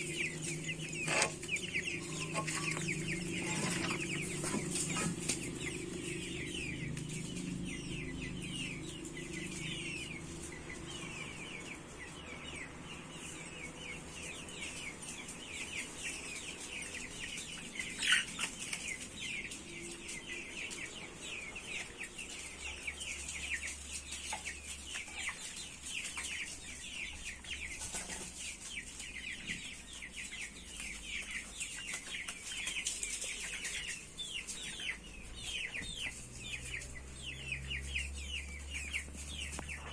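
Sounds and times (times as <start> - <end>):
chickens peeping: 0.0 - 39.9.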